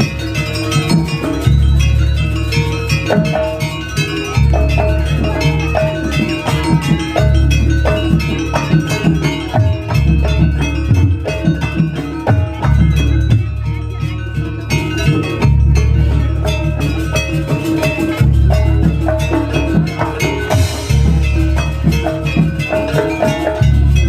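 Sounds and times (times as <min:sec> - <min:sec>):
heavy low bass: 0:00.0 - 0:22.7
drums: 0:00.0 - 0:24.0
ringing struck metal notes: 0:00.0 - 0:24.0.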